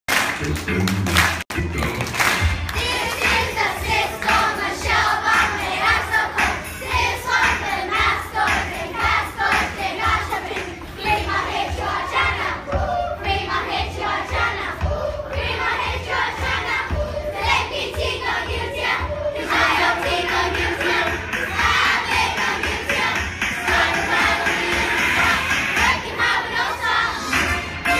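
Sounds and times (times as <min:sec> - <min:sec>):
music with steady beat: 0:00.1 - 0:27.9
children singing and shouting: 0:02.6 - 0:27.9.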